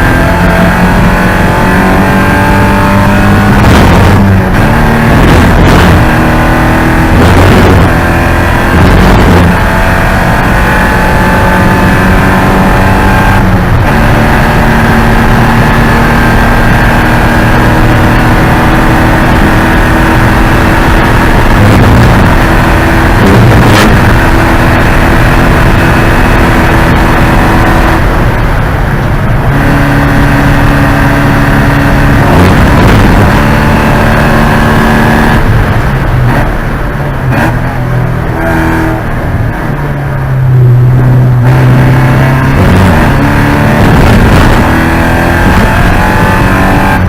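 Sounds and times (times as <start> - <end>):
race car engine at high revs: 0.0 - 47.0.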